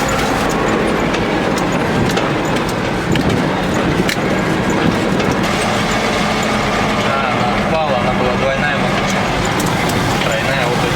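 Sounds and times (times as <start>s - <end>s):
sharp clicks and knocks: 0.0s - 7.1s, 8.9s - 10.9s
clatter and rattling: 0.0s - 7.6s, 8.6s - 10.9s
truck engine droning: 0.0s - 10.9s.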